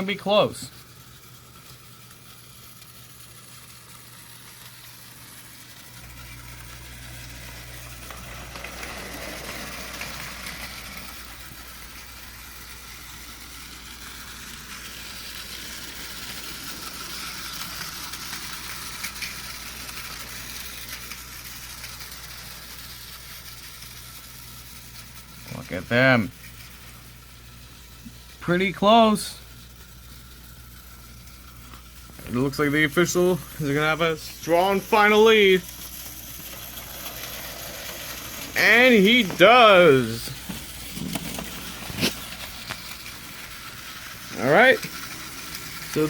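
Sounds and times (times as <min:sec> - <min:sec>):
steady low hum: 0:00.0 - 0:46.0
toy train motors whirring: 0:00.0 - 0:46.0
wheels clattering on plastic track: 0:00.0 - 0:46.0.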